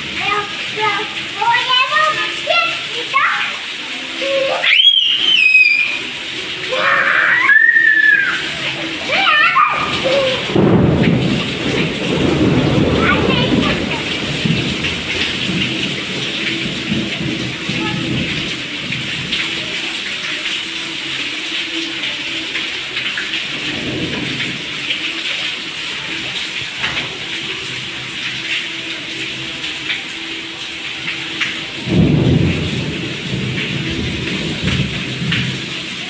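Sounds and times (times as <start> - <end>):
rain splashing into water: 0.0 - 36.0.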